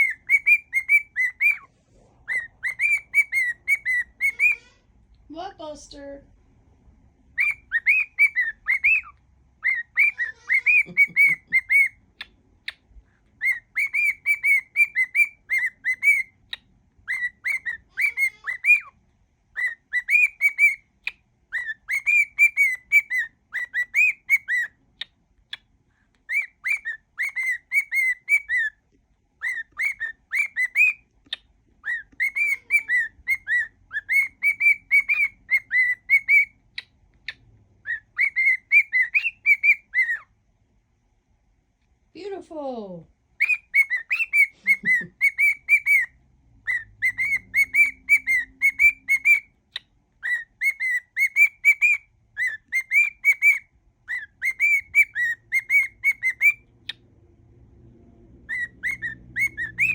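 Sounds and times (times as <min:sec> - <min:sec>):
cockatiel whistling: 0:00.0 - 0:04.8, 0:07.3 - 0:28.8, 0:29.4 - 0:40.3, 0:43.4 - 0:57.0, 0:58.4 - 0:59.9.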